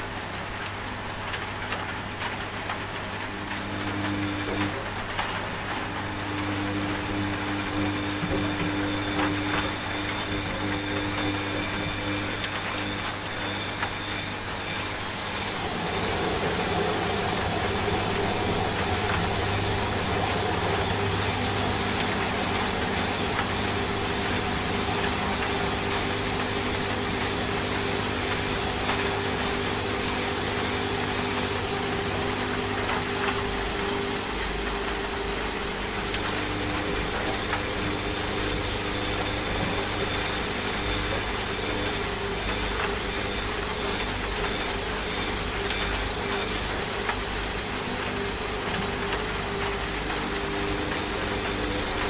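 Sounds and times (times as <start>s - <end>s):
rain hissing: 0.0s - 52.0s
washing machine motor hum: 0.0s - 52.0s.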